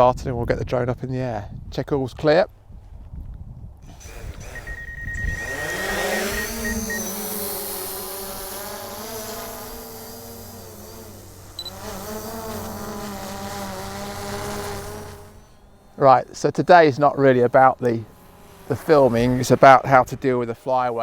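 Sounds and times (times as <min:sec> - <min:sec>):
drone propellers buzzing: 0:03.9 - 0:21.0.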